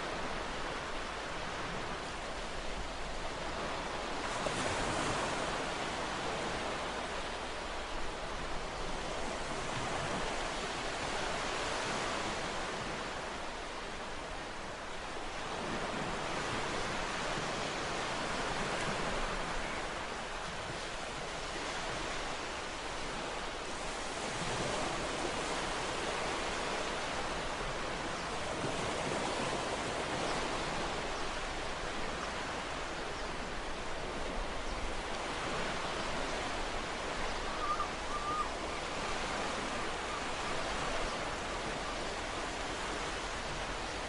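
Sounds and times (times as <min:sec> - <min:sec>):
ocean surf washing ashore: 0:00.0 - 0:44.0.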